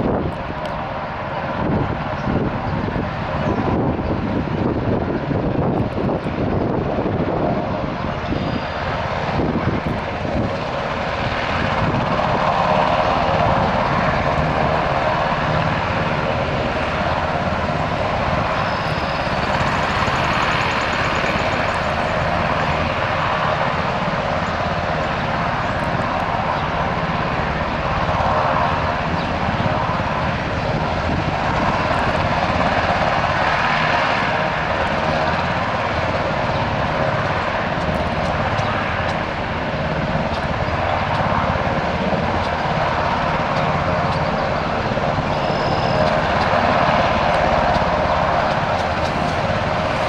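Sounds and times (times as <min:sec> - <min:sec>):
helicopter engine and rotor: 0:00.0 - 0:50.0.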